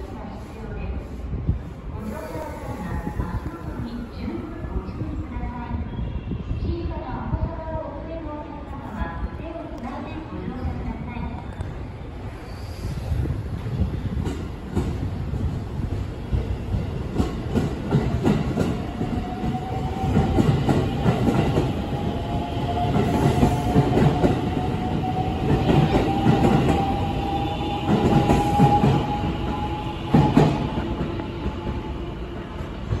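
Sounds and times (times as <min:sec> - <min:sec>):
low train rumble: 0:00.0 - 0:33.0.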